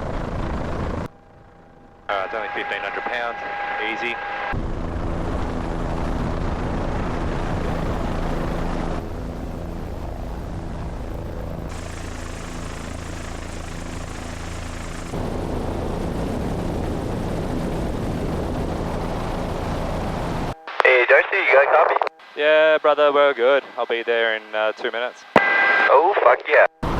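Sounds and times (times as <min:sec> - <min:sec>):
helicopter rotor and turbine drone: 0:00.0 - 0:26.0.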